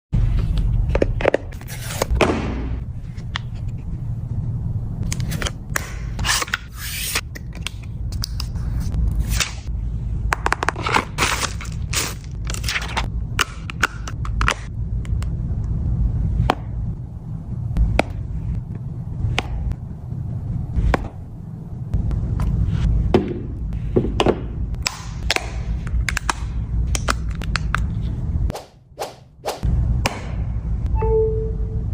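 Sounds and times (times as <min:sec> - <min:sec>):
steady low hum: 0:00.2 - 0:31.9.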